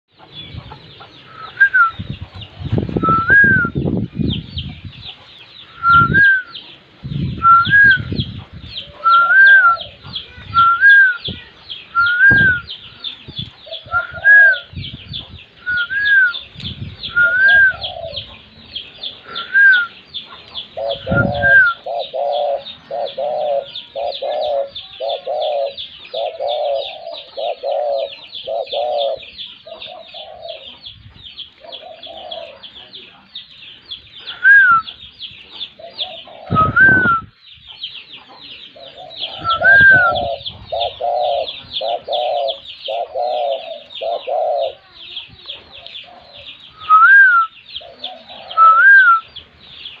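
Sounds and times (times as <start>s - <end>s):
bird clucking: 0.1s - 3.7s, 7.7s - 49.4s
birds chirping: 0.1s - 50.0s.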